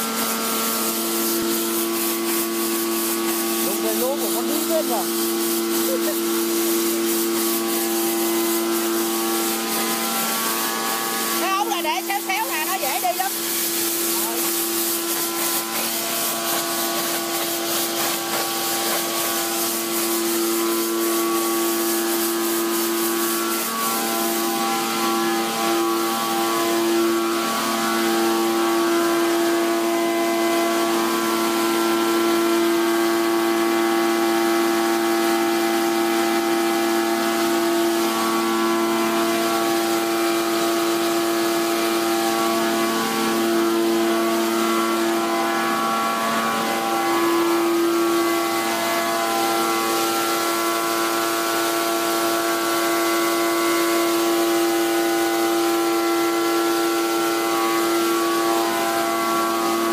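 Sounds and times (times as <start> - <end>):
pneumatic conveyor humming and whining: 0.0 - 59.9.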